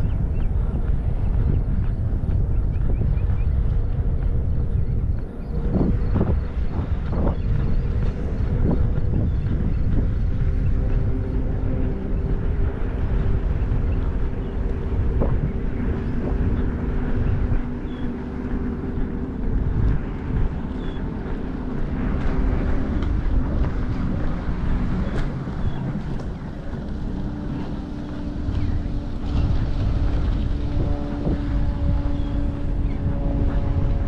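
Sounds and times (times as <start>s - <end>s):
motor droning: 0.0s - 34.0s
wind on microphone: 0.0s - 34.0s.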